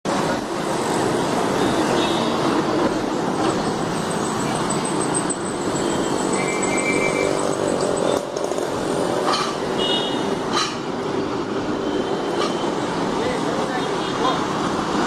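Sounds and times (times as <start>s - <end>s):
road traffic din: 0.0s - 15.0s.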